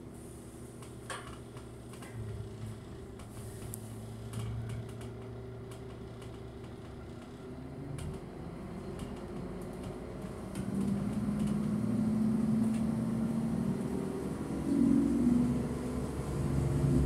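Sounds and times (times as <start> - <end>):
train rumble inside coach: 0.0 - 17.0.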